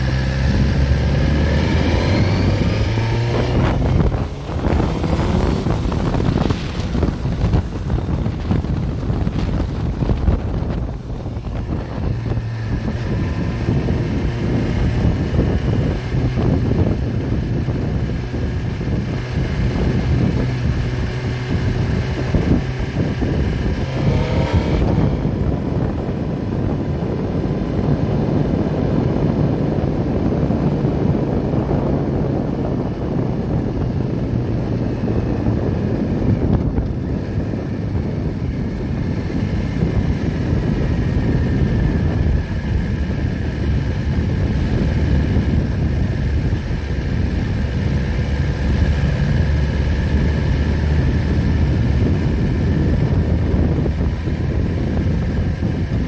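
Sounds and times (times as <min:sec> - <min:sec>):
engine running: 0:00.0 - 0:56.0
wind noise on microphone: 0:00.0 - 0:56.0.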